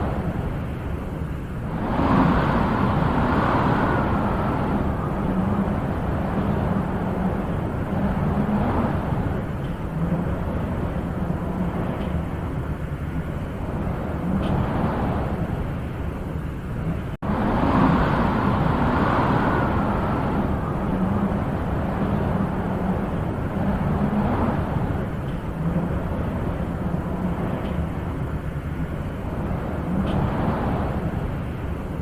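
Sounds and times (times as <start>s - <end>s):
wind gusting: 0.0s - 32.0s.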